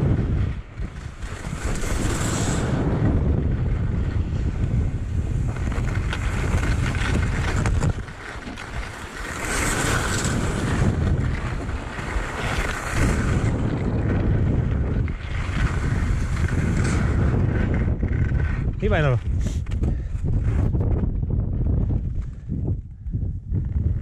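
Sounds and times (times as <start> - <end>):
skis scraping on hard snow: 0.0 - 21.1
wind rumbling on microphone: 0.0 - 24.0.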